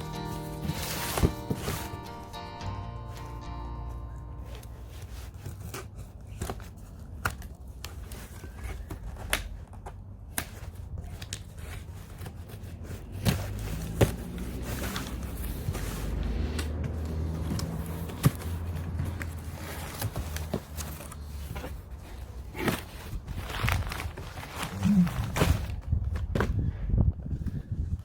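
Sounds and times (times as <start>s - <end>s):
packaging rustling and crinkling: 0.0s - 2.2s, 4.4s - 26.5s.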